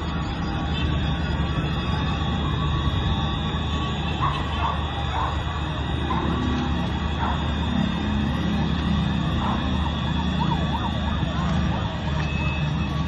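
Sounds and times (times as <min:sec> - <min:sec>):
sirens wailing: 0:00.0 - 0:13.0
street noise: 0:00.0 - 0:13.0.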